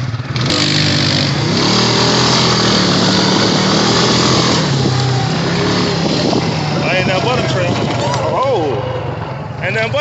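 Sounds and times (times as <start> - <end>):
atv engine running under throttle: 0.0 - 10.0.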